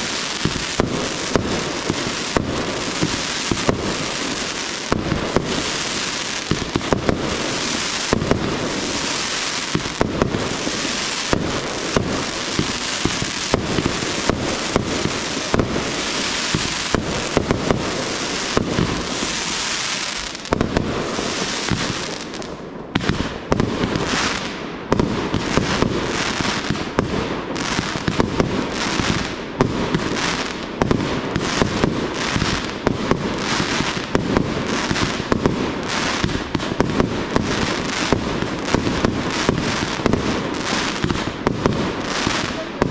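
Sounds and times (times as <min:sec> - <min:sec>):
fireworks bangs: 0:00.0 - 0:42.9
fireworks crackling hiss: 0:00.0 - 0:42.9.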